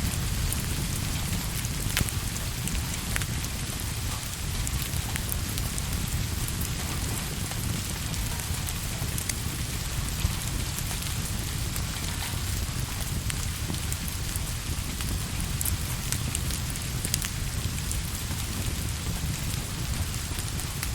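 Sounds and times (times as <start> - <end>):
steady rain: 0.0 - 20.9
wood fire crackling: 0.0 - 20.9.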